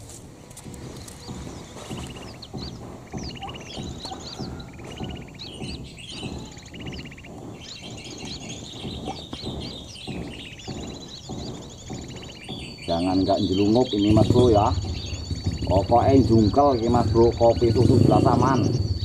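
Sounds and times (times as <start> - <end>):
low crackling noise: 0.0 - 19.0
bird chirps with buzzy trill: 0.6 - 19.0.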